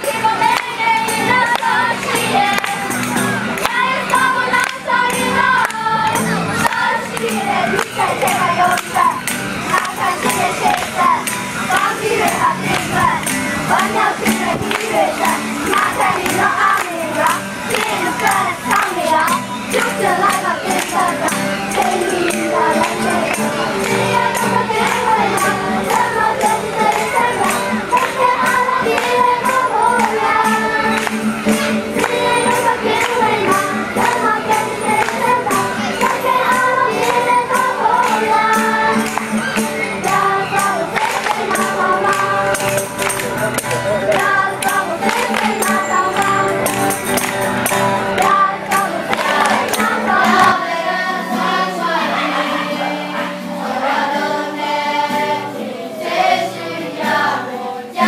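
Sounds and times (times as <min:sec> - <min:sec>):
tambourine shaken: 0:00.0 - 0:55.6
choir singing: 0:00.0 - 0:58.0
group singing: 0:00.0 - 0:58.0.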